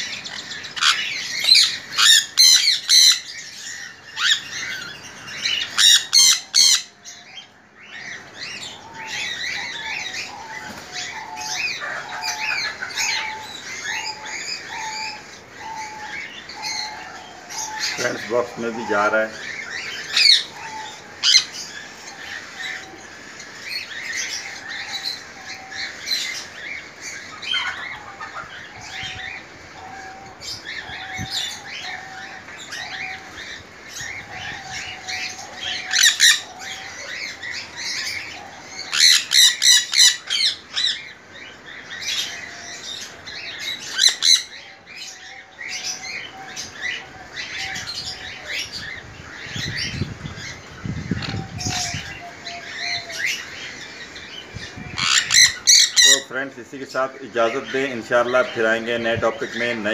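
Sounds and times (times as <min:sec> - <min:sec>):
background bird chirping: 0:00.0 - 0:59.9
parrots squawking: 0:00.0 - 0:59.9.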